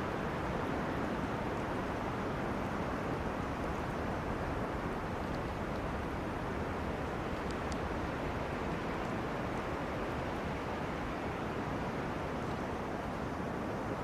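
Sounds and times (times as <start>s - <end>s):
wind blowing through trees: 0.0s - 14.0s.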